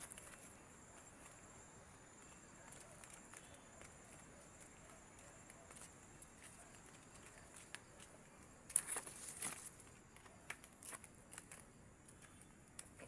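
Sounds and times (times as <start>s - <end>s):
rustling and crackling: 2.3s - 13.0s.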